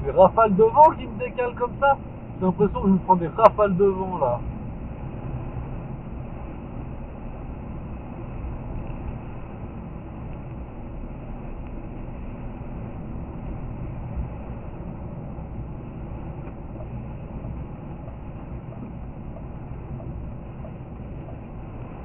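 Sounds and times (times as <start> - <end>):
car road noise from inside cabin: 0.0 - 22.0.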